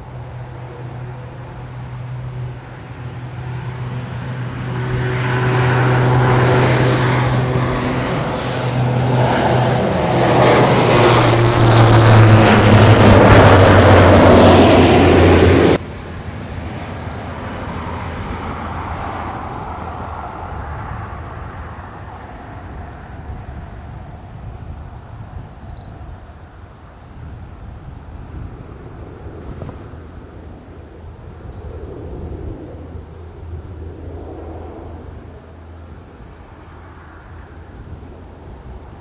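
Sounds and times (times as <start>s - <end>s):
propeller aircraft droning overhead: 0.0s - 39.0s.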